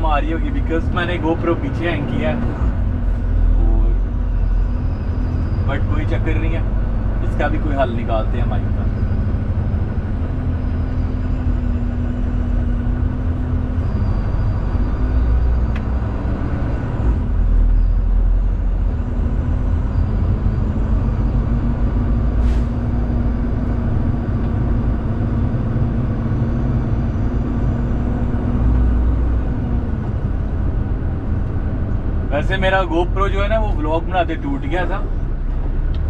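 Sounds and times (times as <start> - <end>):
diesel engine running: 0.0 - 36.0
road rumble: 0.0 - 36.0.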